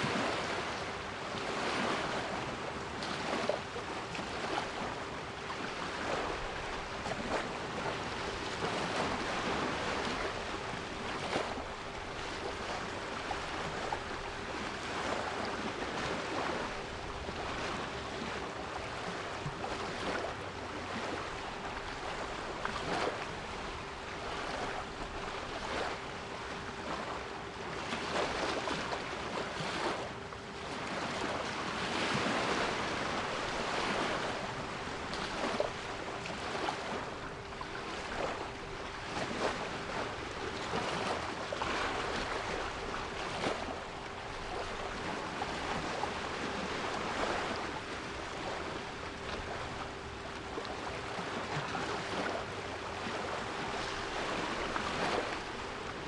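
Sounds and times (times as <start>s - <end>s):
sea waves washing: 0.0s - 56.0s.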